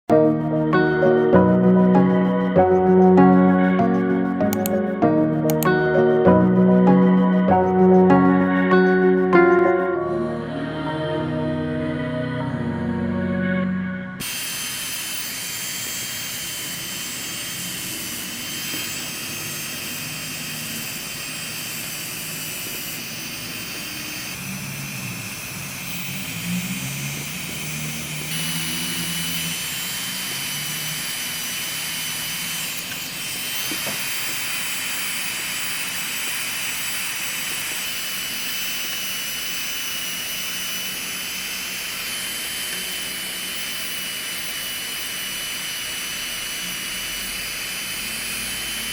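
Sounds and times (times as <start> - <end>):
electric grinder whining: 0.0 - 10.0, 14.2 - 48.9.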